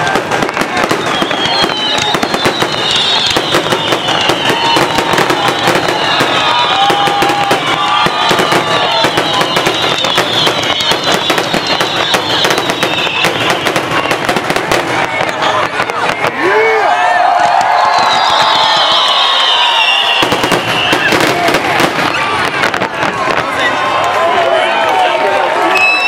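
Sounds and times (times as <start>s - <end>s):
fireworks bursting: 0.0s - 16.5s, 17.4s - 24.2s
fireworks crackling: 0.0s - 16.6s, 17.4s - 25.8s.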